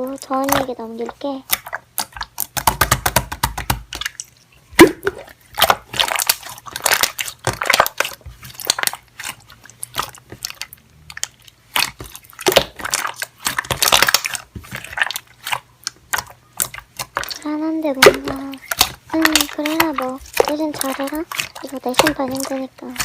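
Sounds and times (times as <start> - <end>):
slime squishing: 0.0 - 23.0.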